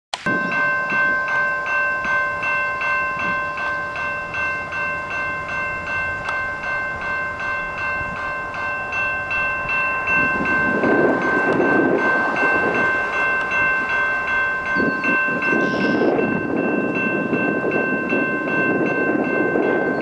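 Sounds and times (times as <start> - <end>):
level crossing warning bell: 0.3 - 20.0.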